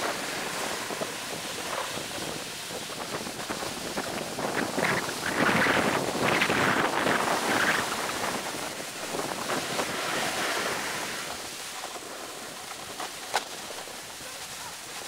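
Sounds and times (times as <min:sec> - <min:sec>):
rushing hiss: 0:00.0 - 0:15.0.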